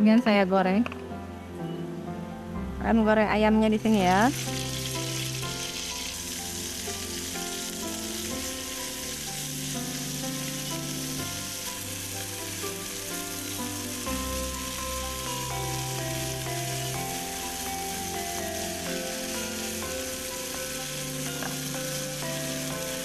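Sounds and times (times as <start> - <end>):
background music: 0.0 - 23.0
chicken frying in oil: 3.9 - 23.0.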